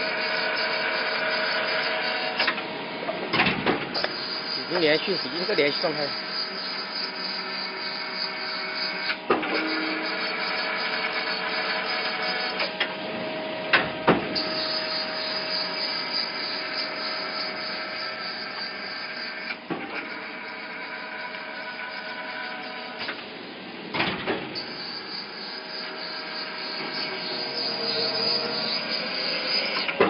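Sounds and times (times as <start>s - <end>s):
machine motor whine: 0.0s - 3.2s, 3.8s - 30.0s.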